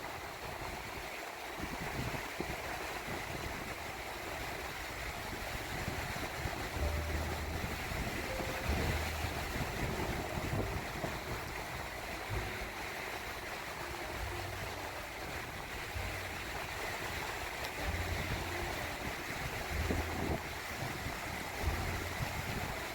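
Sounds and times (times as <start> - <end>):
waves washing onto beach: 0.0 - 22.9
wind buffeting microphone: 0.0 - 22.9.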